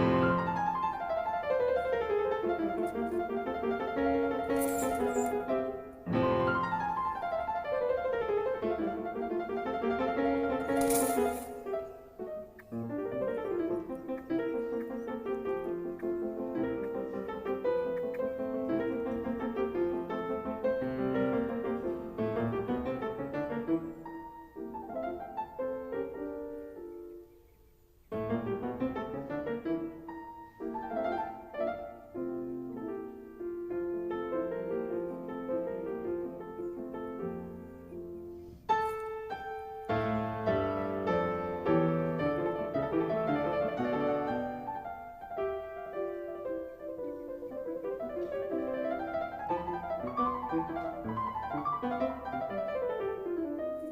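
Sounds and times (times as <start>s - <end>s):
piano music: 0.0s - 27.5s, 28.1s - 53.9s.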